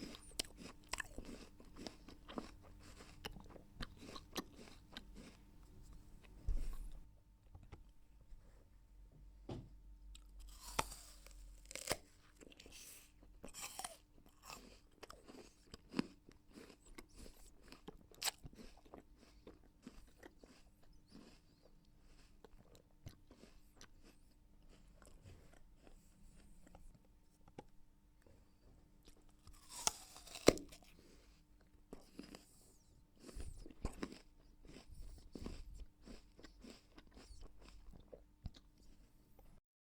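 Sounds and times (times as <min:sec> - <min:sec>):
person chewing crisp apple: 0:00.0 - 0:07.0, 0:10.1 - 0:39.6.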